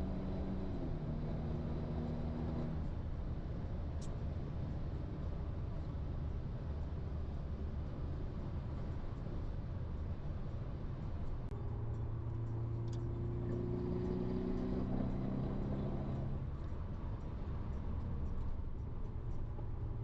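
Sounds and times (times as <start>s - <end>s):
road and tyre noise: 0.0s - 20.0s.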